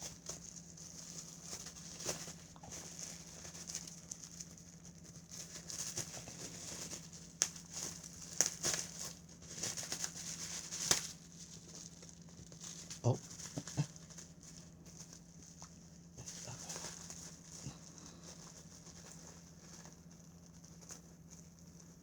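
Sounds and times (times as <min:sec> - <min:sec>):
packaging crinkling and rustling: 0:00.0 - 0:22.0
sharp packaging crackles: 0:00.0 - 0:22.0.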